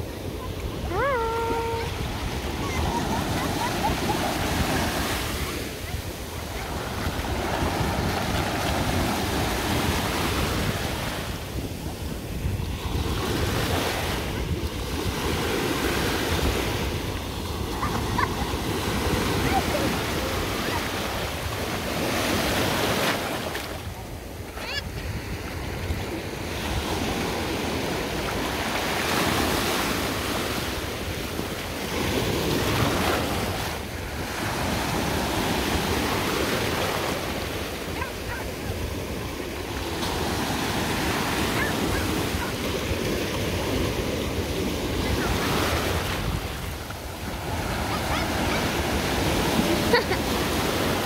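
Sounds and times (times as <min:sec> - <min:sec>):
small waves breaking: 0:00.0 - 0:51.0.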